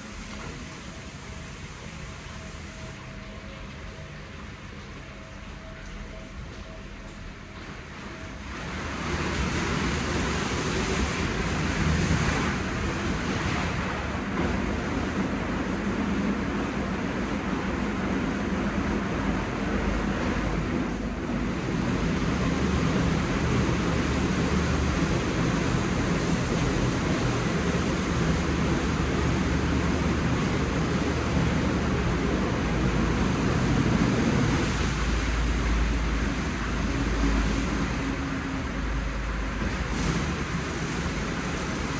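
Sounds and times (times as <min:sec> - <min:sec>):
spraying water: 0:00.0 - 0:03.0, 0:08.5 - 0:41.9
car wash machinery: 0:00.0 - 0:41.9.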